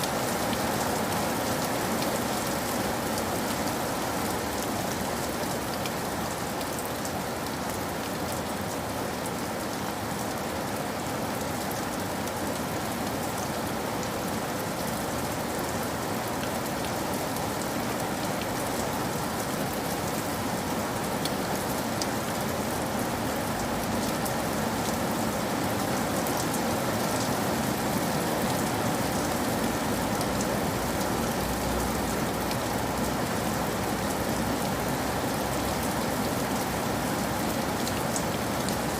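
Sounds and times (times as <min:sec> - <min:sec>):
rain pattering on a roof: 0:00.0 - 0:38.9.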